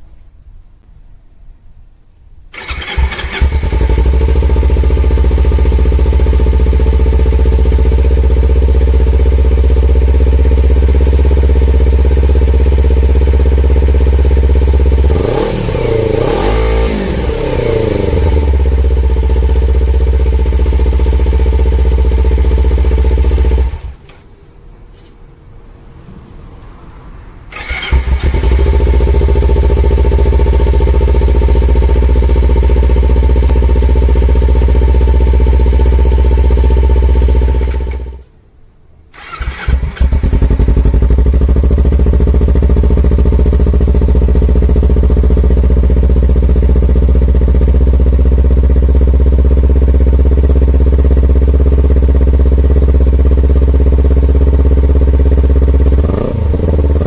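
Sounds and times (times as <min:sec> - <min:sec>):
motorcycle engine idling: 0:02.6 - 0:24.3, 0:27.5 - 0:38.2, 0:39.2 - 0:57.0.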